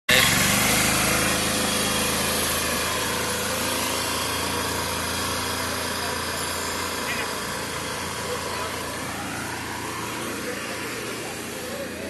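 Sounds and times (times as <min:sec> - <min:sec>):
small vehicle engine running: 0:00.1 - 0:12.0.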